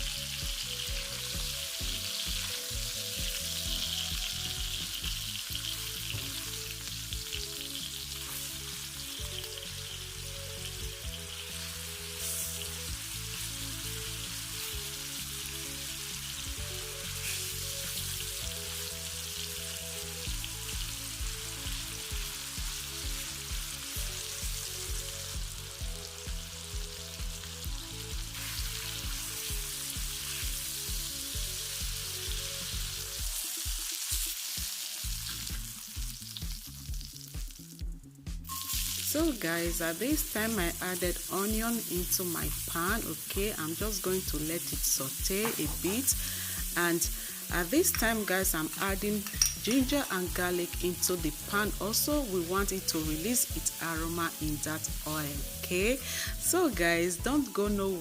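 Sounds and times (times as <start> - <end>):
background music with beat: 0.0 - 58.0
food sizzling in oil: 0.0 - 58.0.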